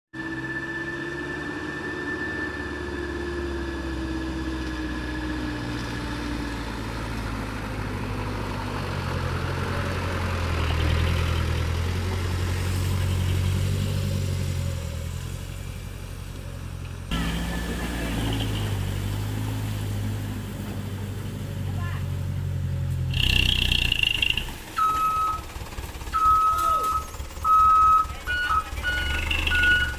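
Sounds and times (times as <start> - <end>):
truck engine running: 0.2 - 29.9.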